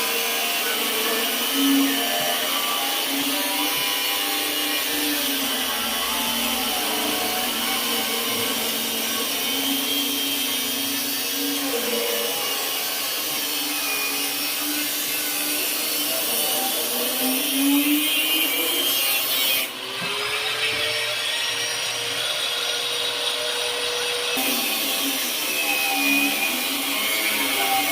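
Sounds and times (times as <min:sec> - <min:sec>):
harsh grinding hiss: 0:00.0 - 0:19.8, 0:20.4 - 0:27.9
angle grinder motor: 0:00.0 - 0:27.9.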